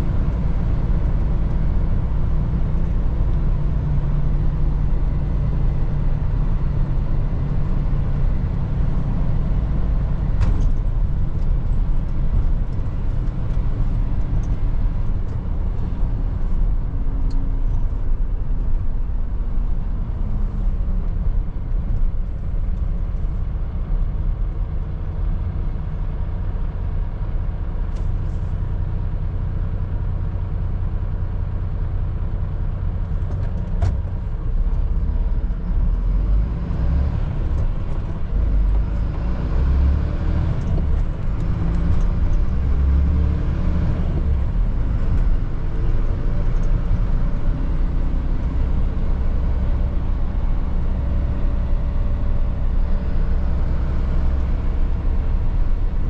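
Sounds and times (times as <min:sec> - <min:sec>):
road noise: 0:00.0 - 0:56.0.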